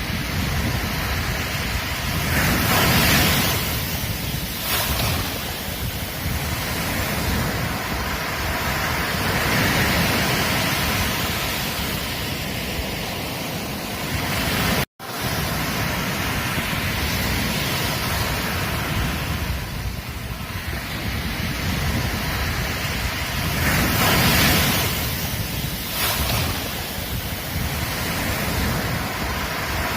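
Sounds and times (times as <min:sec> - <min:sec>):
ocean surf washing onto beach: 0:00.0 - 0:29.9
wind rumbling on microphone: 0:00.0 - 0:29.9.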